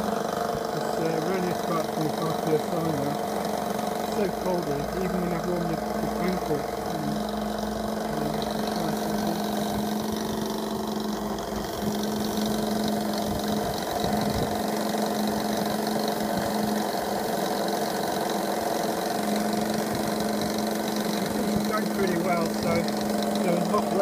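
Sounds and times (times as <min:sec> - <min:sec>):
model steam engine running: 0:00.0 - 0:24.0.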